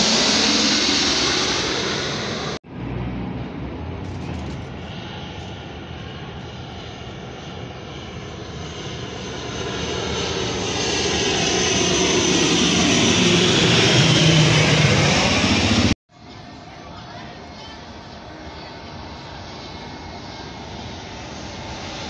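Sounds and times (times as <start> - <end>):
turboprop airliner passing overhead: 0.0 - 22.0.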